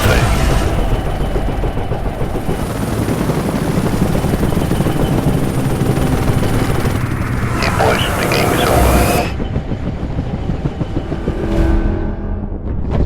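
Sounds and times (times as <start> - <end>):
helicopter rotor chopping: 0.0 - 11.4.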